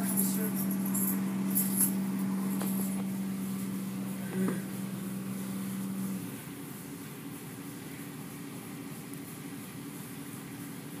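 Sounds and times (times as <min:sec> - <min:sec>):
machine hum: 0:00.0 - 0:11.0
running liquid: 0:00.0 - 0:11.0.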